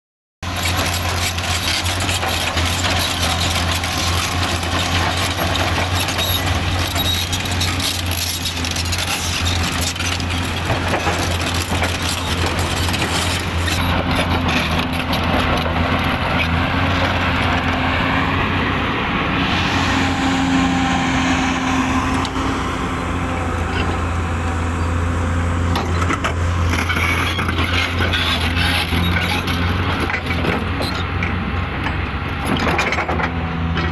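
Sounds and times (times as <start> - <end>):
heavy diesel machinery running: 0.4 - 33.9.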